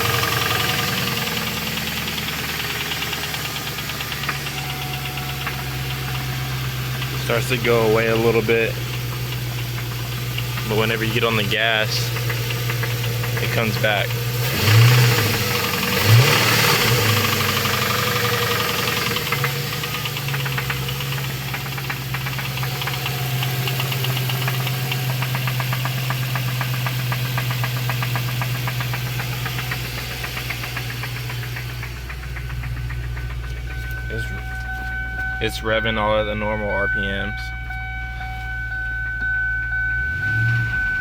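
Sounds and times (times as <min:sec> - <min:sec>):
car engine revving: 0:00.0 - 0:41.0
engine knocking rattle: 0:00.0 - 0:41.0.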